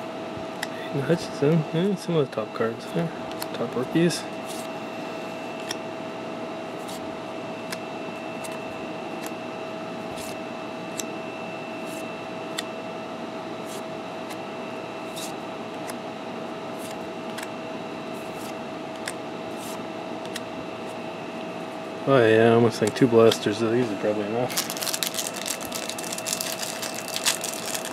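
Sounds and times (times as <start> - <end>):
background hum: 0.0 - 27.9
constant high whine: 0.0 - 27.9.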